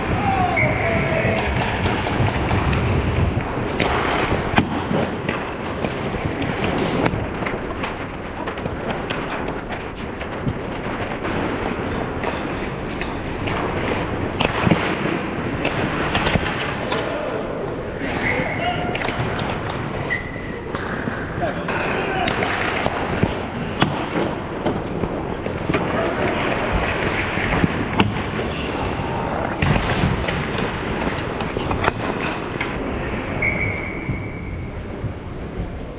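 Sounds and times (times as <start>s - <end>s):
sharp cracks: 0.0s - 33.8s
skates scraping ice: 0.0s - 35.9s
sticks and puck clattering: 0.0s - 35.9s.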